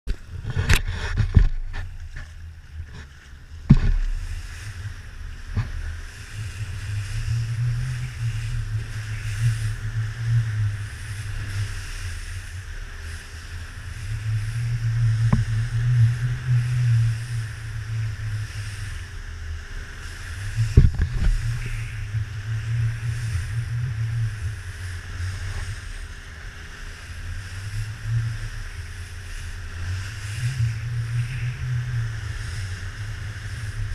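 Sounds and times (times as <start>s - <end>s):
hull thumping on waves: 0.1s - 33.9s
outboard engine drone: 0.1s - 33.9s.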